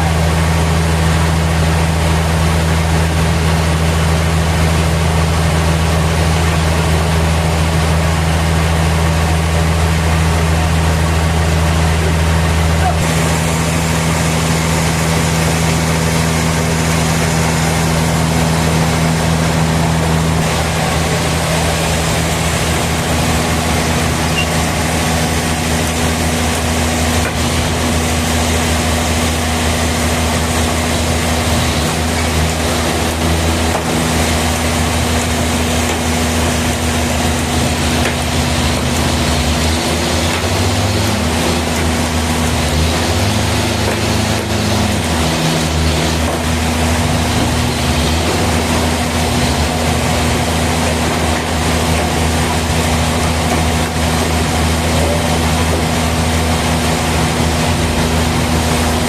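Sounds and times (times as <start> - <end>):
sawmill machinery droning: 0.0 - 59.0.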